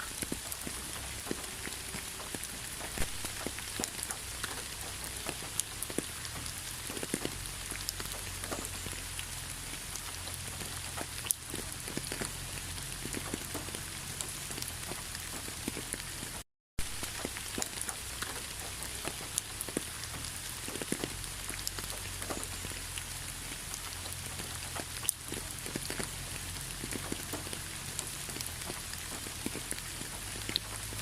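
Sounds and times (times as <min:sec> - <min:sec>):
raindrops ticking on a surface: 0:00.0 - 0:31.0
steady rain falling: 0:00.0 - 0:31.0.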